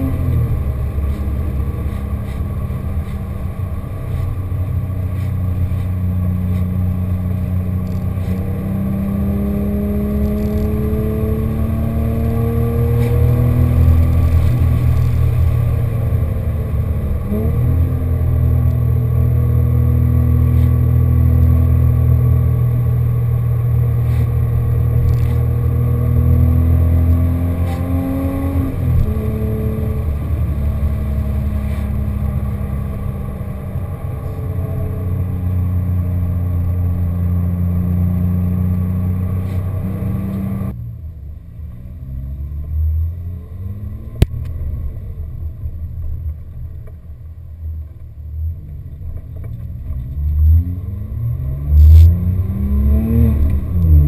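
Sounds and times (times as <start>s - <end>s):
car engine heard from cabin: 0.0s - 54.0s.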